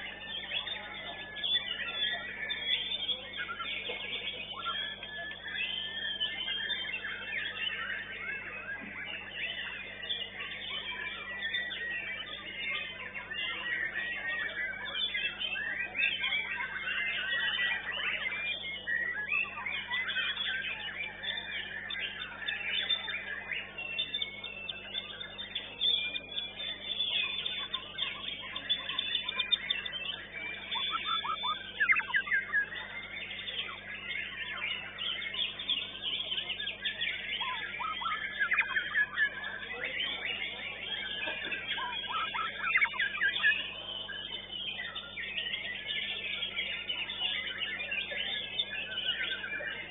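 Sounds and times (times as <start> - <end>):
bird singing varied whistles: 0.0 - 49.9
other songbirds: 0.0 - 49.9.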